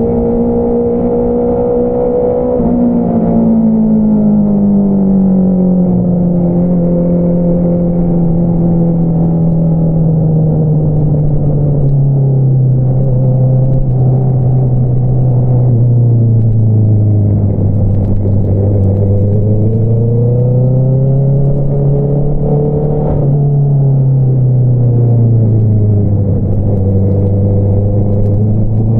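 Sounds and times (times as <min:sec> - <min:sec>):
motorcycle engine while riding: 0:00.0 - 0:28.9.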